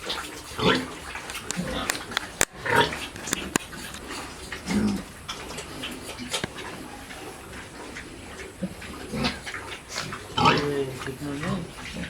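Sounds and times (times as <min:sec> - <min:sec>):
pig grunting: 0:00.0 - 0:12.0.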